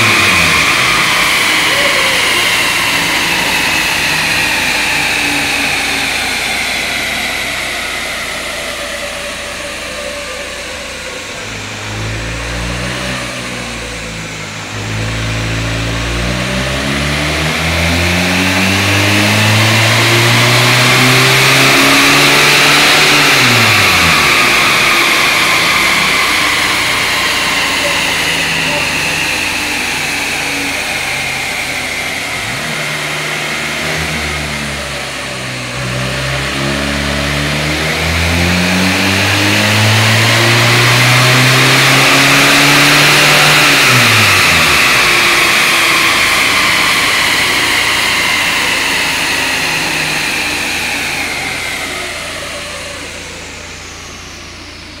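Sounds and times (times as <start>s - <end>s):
engine revving under load: 0.0s - 55.0s.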